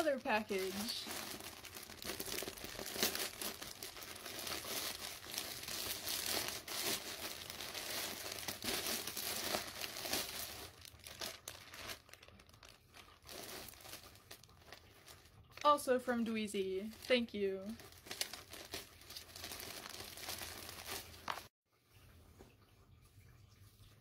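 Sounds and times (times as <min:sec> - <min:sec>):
plastic bag tearing and crinkling: 0:00.0 - 0:15.7, 0:16.9 - 0:21.5.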